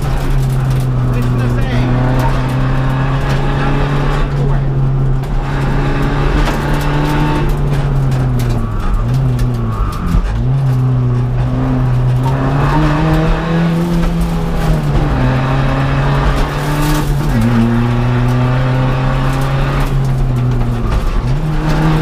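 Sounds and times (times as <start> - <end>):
rally car engine driven hard: 0.0 - 22.0.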